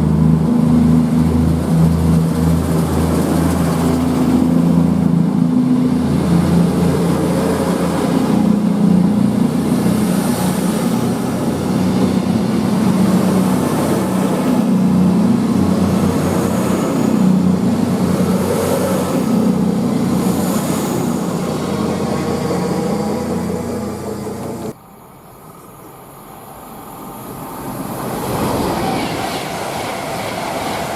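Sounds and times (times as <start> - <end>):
train passing drone: 0.0 - 30.9.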